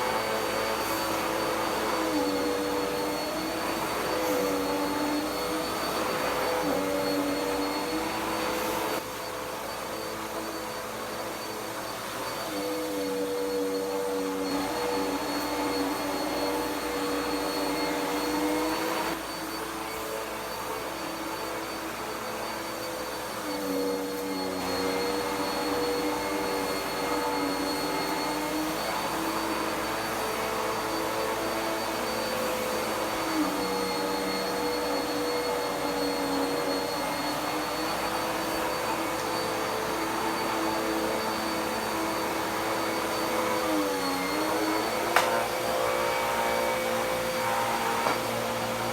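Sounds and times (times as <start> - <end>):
vacuum cleaner whining: 0.0 - 48.9.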